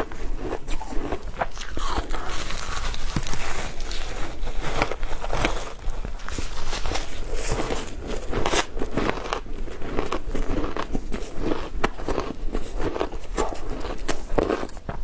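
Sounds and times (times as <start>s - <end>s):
person crunching ice: 0.0s - 15.0s.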